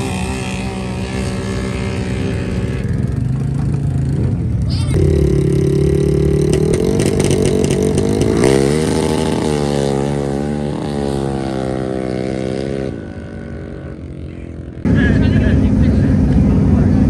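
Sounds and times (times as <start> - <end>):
atv engines revving and accelerating: 0.0 - 17.0.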